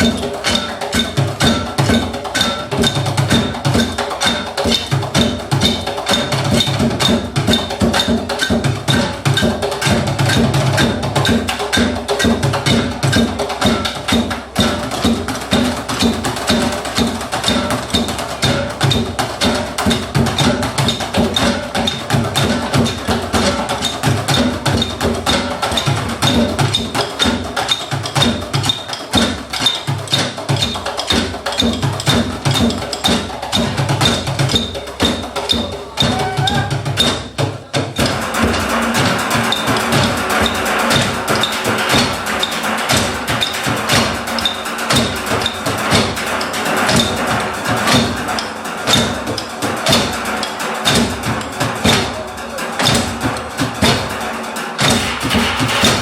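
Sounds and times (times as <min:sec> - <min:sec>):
wood block percussion strikes: 0:00.0 - 0:56.0.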